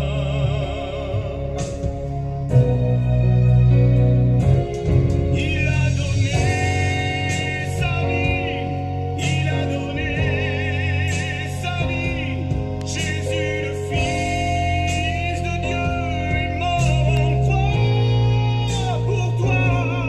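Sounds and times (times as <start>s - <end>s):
hymn singing: 0.0s - 20.0s
instrumental backing: 0.0s - 20.0s
steady bass: 0.0s - 20.0s.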